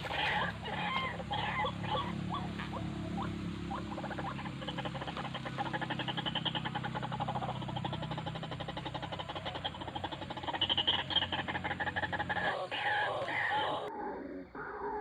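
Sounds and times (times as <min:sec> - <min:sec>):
steady low hum: 0:00.0 - 0:15.0
waterhen croaking call: 0:00.0 - 0:15.0.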